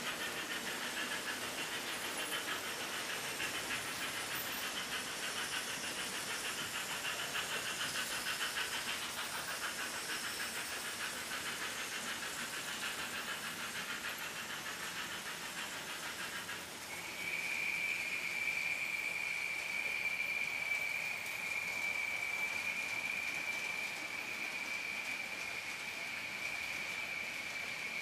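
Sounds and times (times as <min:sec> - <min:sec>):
hiss: 0:00.0 - 0:28.0
model train wheels rattling on rails: 0:00.0 - 0:28.0.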